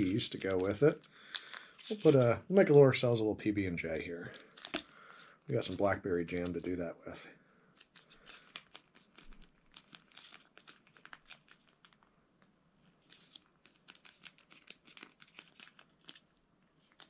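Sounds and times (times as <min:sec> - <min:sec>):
foil packet crinkling and tearing: 0:00.0 - 0:02.7, 0:04.1 - 0:06.7, 0:07.7 - 0:12.1, 0:13.0 - 0:17.0.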